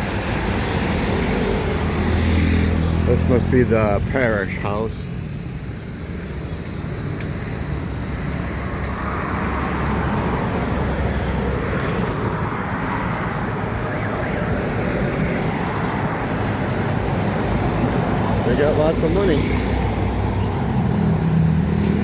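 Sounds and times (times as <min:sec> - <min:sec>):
vehicle engine and tyre noise: 0:00.0 - 0:22.0.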